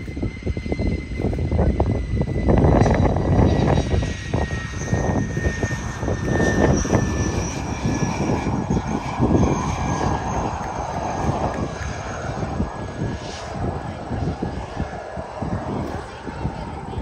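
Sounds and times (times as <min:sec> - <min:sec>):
jet engine rumble with whine: 0:00.0 - 0:17.0.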